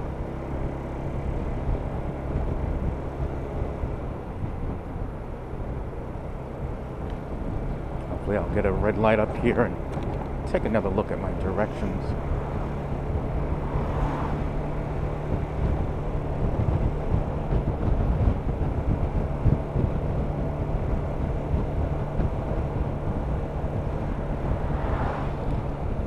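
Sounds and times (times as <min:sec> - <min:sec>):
road and wind rumble: 0:00.0 - 0:26.0
scooter engine humming: 0:00.0 - 0:26.0.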